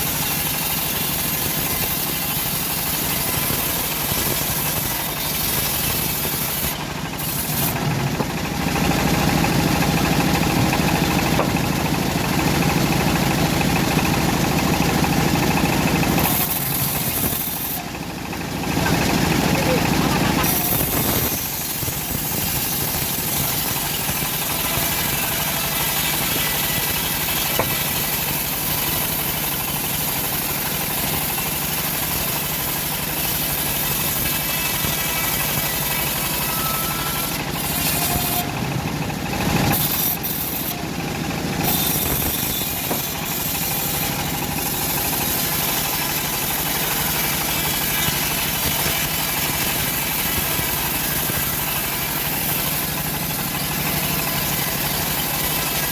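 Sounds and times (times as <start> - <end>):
bandsaw sawing wood: 0.0 - 55.9.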